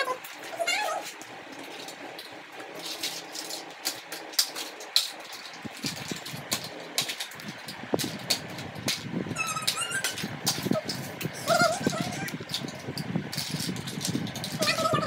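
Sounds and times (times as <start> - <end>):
plastic toy blocks clattering: 0.0 - 15.0.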